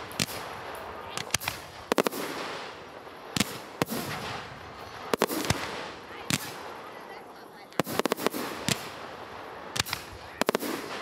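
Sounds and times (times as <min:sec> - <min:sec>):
fireworks bangs with echo: 0:00.0 - 0:11.0.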